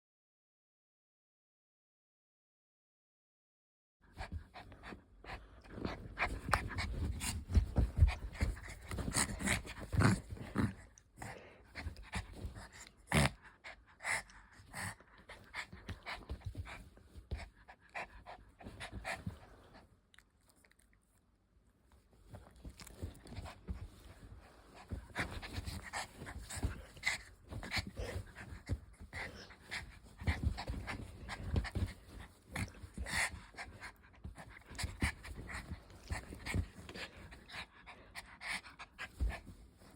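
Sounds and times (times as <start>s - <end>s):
puppy panting: 4.2s - 19.9s, 22.6s - 39.9s.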